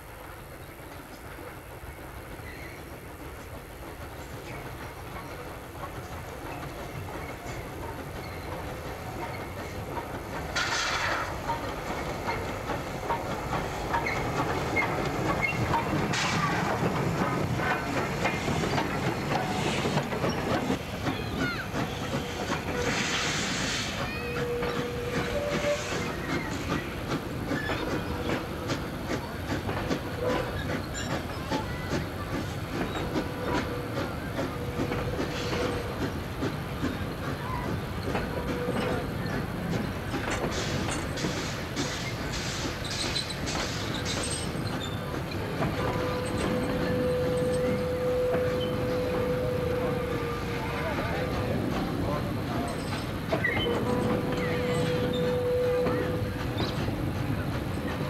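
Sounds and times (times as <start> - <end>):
steam hiss: 0.0 - 58.0
train wheels clicking over rail joints: 0.1 - 58.0.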